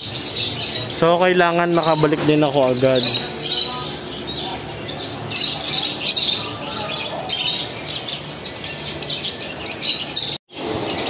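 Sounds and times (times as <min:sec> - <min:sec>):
caged birds chirping and squawking: 0:00.0 - 0:11.0.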